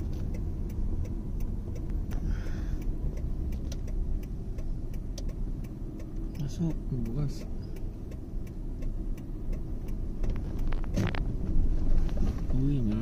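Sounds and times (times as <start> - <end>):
car engine and tyres rumbling: 0.0 - 13.0
faint light ticks: 0.0 - 13.0.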